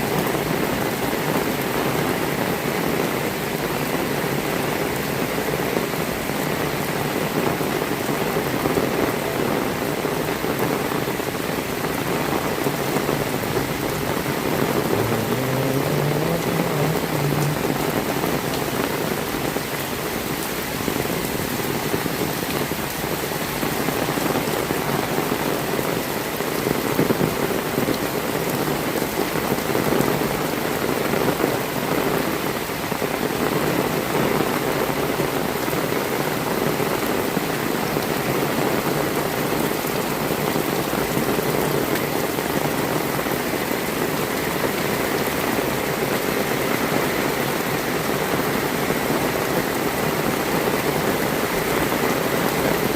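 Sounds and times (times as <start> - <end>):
heavy rain on hard surfaces: 0.0 - 52.9
loud rain splatters: 0.0 - 52.9.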